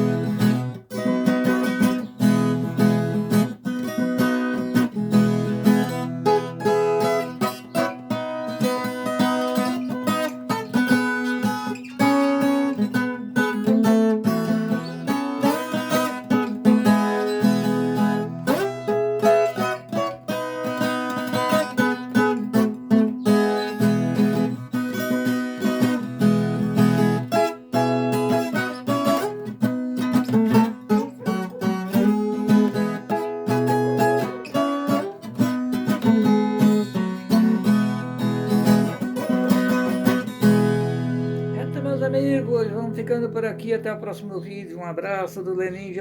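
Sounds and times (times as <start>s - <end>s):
plucked steel-string guitar: 0.0s - 46.0s.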